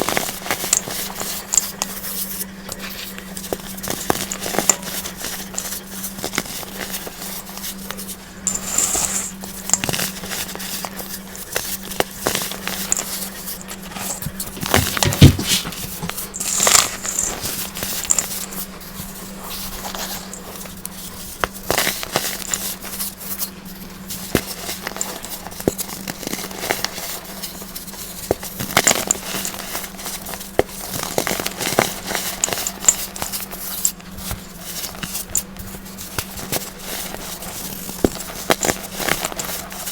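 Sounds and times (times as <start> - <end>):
baking soda crunching: 0.0 - 39.9
faint steady hum: 0.0 - 39.9.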